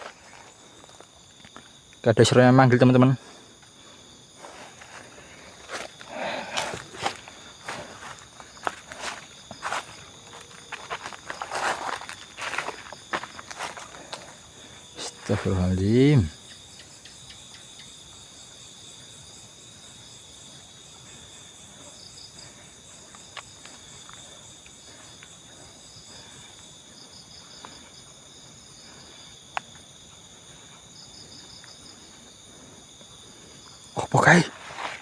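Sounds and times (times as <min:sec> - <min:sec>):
insects buzzing: 0:00.0 - 0:35.0
pulsed insect chirping: 0:00.0 - 0:35.0.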